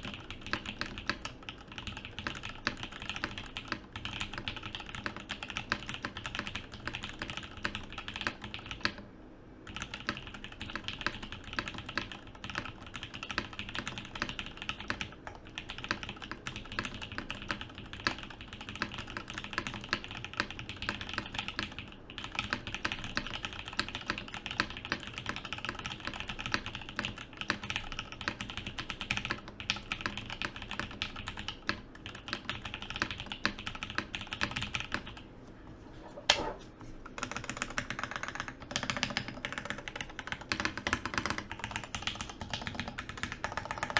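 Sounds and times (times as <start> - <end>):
mechanical keyboard typing: 0.0 - 9.1, 9.7 - 35.2, 37.0 - 43.9.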